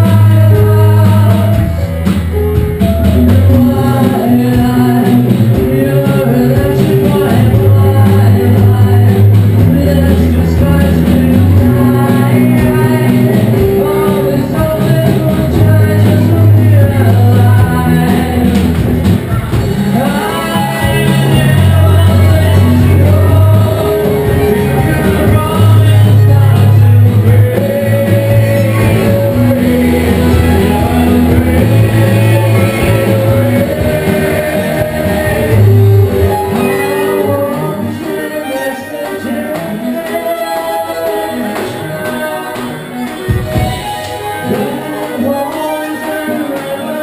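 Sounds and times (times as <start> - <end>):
bass line: 0.0 - 45.7
drum kit: 0.0 - 47.0
electric guitars: 0.0 - 47.0
man singing: 0.0 - 47.0.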